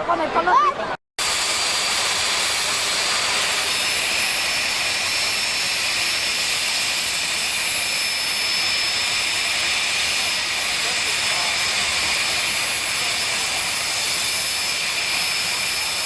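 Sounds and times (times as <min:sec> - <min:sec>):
jet engine rush with high whine: 0:01.2 - 0:16.0.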